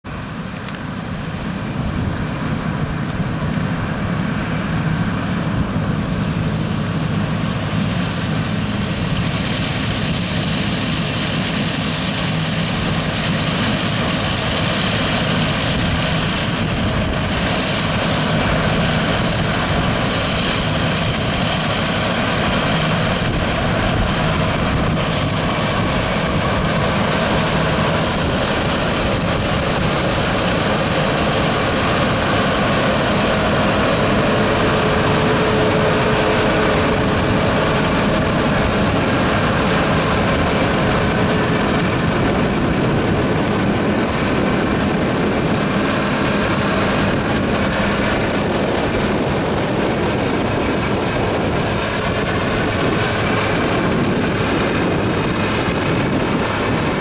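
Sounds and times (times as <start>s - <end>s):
diesel engine drone: 0.0s - 57.0s
threshing machinery whir: 0.1s - 57.0s.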